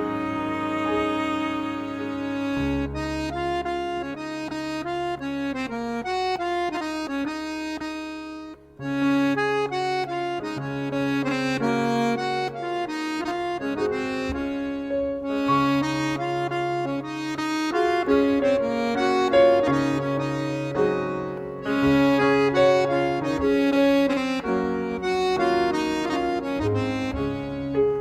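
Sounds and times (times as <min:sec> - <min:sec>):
accordion dance tune: 0:00.0 - 0:28.0.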